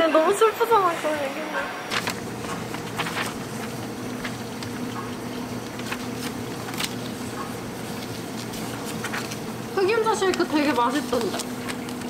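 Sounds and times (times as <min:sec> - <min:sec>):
electrical machine hum: 0:00.0 - 0:12.0
paper sheets rustling: 0:01.9 - 0:12.0.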